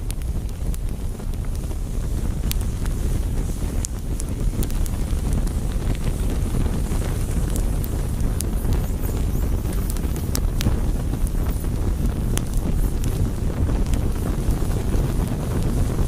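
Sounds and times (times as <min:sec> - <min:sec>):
fire crackling and popping: 0:00.0 - 0:16.0
roar of flames: 0:00.0 - 0:16.0.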